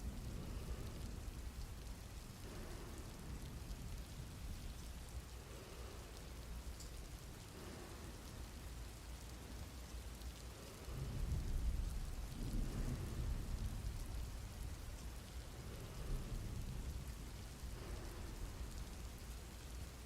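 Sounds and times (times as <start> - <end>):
thunder rumbling: 0.0 - 8.8, 10.6 - 20.0
steady rain falling: 0.0 - 20.0.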